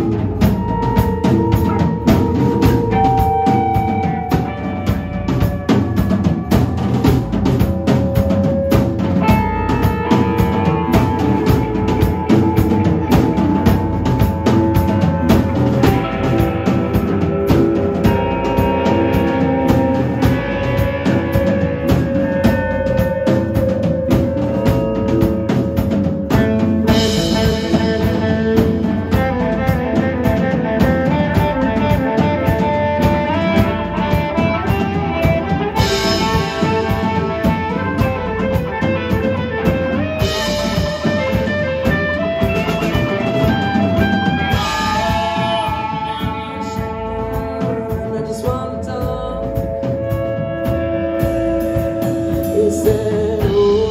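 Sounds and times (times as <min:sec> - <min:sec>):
drum kit steady beat: 0:00.0 - 0:53.9
electric guitars: 0:00.0 - 0:53.9.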